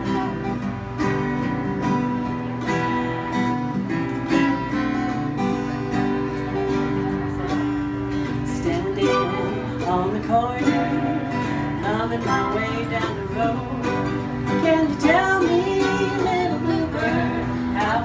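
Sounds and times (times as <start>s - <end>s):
mandolin: 0.0s - 18.0s
strummed acoustic guitars: 0.0s - 18.0s.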